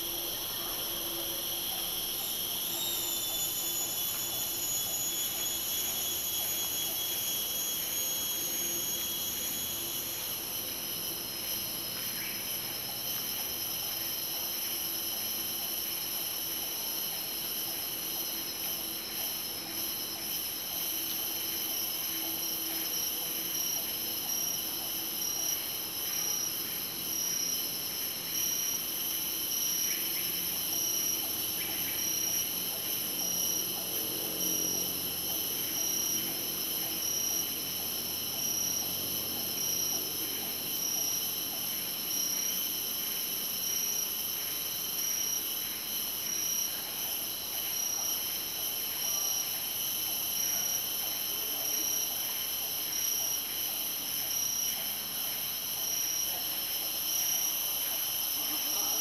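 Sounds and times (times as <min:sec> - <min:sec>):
insect chorus drones: 0:00.0 - 0:59.0
pulsing insect call: 0:00.0 - 0:59.0.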